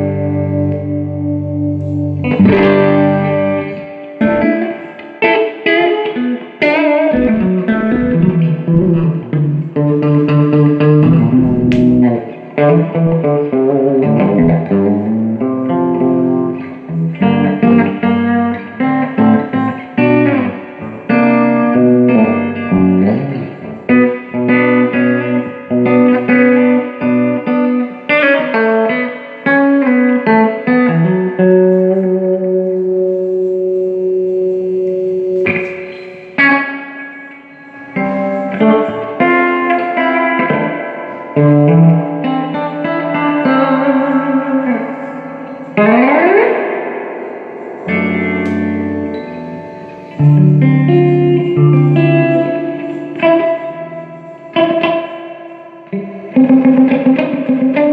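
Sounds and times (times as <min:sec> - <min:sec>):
electric guitar playing: 0:00.0 - 0:57.9.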